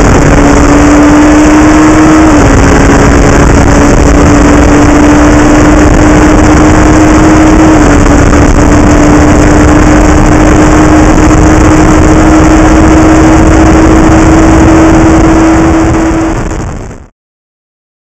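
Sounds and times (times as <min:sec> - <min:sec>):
race car engine running: 0:00.0 - 0:17.0
wind and road rush: 0:00.0 - 0:17.1.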